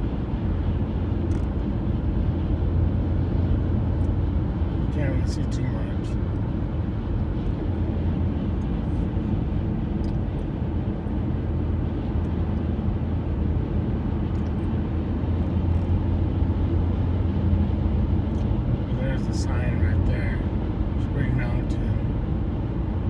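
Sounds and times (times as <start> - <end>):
car cabin road and engine rumble: 0.0 - 23.0.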